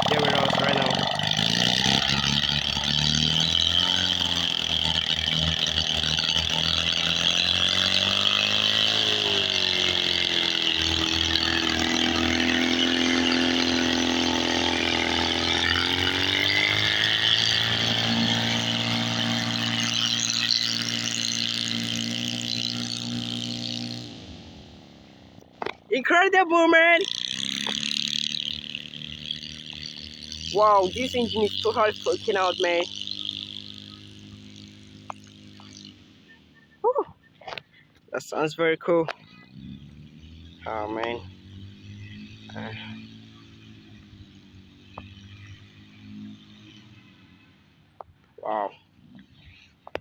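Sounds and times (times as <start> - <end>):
two-cylinder engine running: 0.0 - 50.0.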